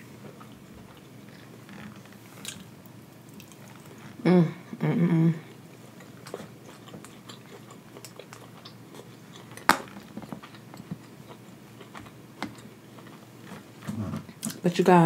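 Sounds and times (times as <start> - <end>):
person chewing: 0.3 - 4.1, 5.5 - 14.6.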